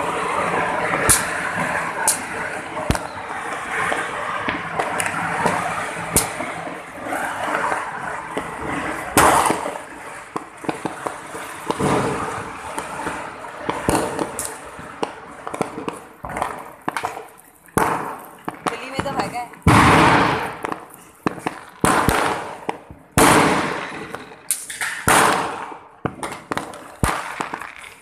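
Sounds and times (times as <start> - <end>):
background noise: 0.0 - 28.0.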